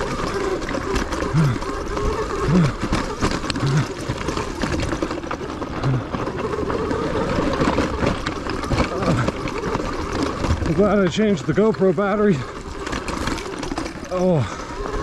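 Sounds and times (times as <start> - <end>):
electric dirt bike drivetrain: 0.0 - 15.0
tyres knocking over rocks: 0.0 - 15.0.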